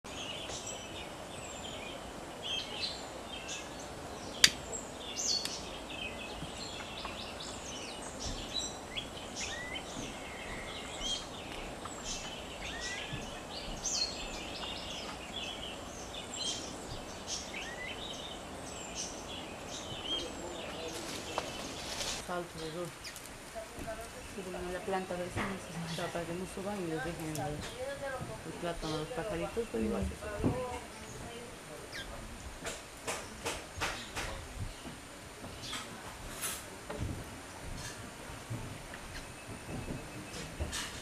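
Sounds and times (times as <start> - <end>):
background hiss: 0.1 - 41.0
birds chirping: 0.1 - 41.0.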